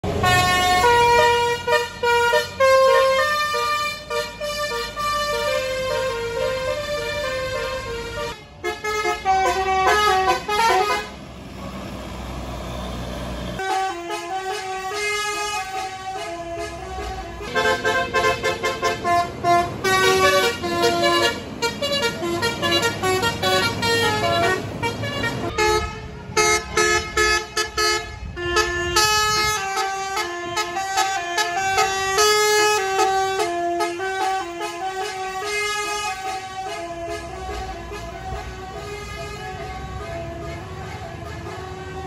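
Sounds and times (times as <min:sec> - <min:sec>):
multi-tone melodic air horn: 0:00.2 - 0:11.2, 0:13.6 - 0:42.0.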